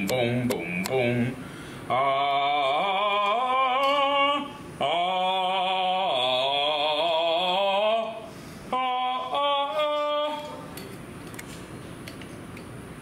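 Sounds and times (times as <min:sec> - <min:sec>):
man singing with vibrato: 0:00.0 - 0:10.8.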